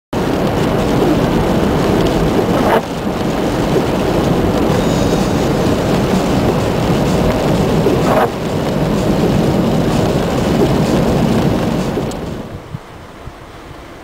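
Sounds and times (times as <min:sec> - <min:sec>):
blizzard wind buffeting microphone: 0:00.1 - 0:14.0.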